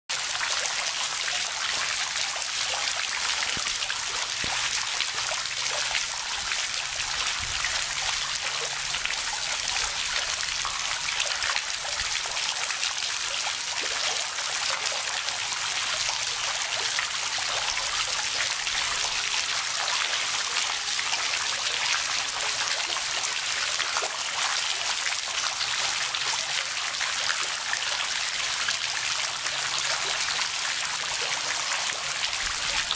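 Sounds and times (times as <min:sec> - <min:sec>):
water trickling over stones: 0:00.1 - 0:32.9.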